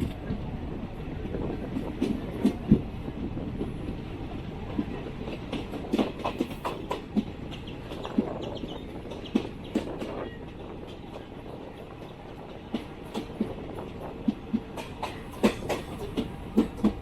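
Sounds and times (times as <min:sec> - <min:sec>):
train coach rumbling on track: 0:00.0 - 0:17.0.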